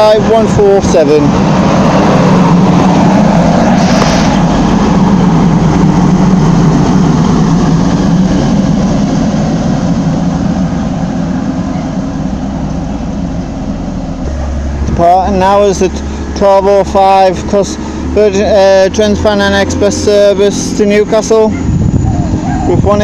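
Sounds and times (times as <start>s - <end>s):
train diesel engines humming: 0.0s - 23.0s.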